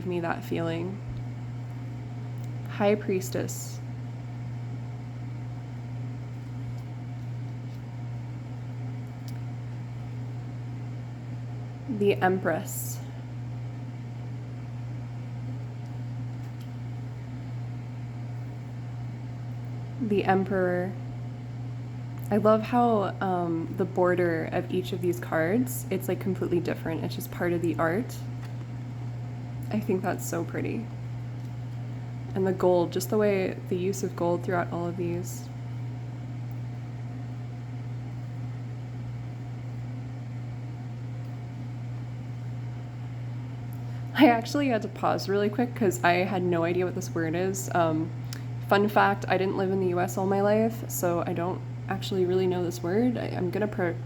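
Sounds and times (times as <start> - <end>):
low hum: 0.0 - 54.0.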